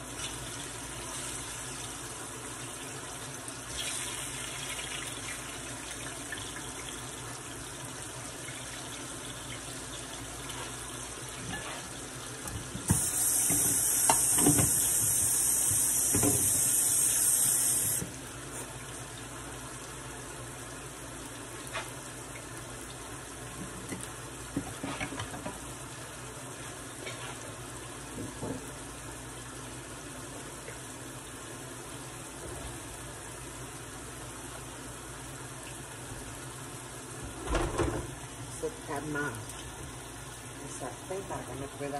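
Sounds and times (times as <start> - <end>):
plantain frying in oil: 0.0 - 41.9
water running from a tap: 0.0 - 41.9.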